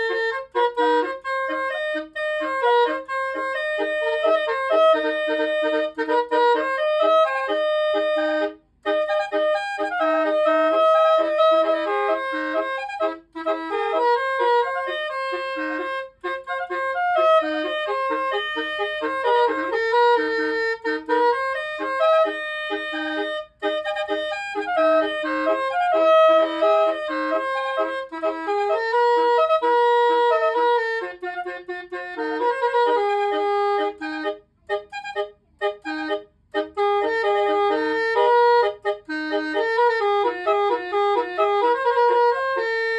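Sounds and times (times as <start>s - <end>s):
reedy horn playing a tune: 0.0s - 42.9s.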